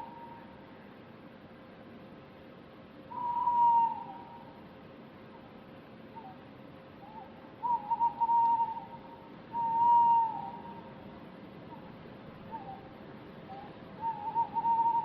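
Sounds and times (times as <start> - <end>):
distant owl hooting: 0.0 - 0.7, 3.1 - 4.6, 5.2 - 15.0
low background hiss: 0.0 - 15.0.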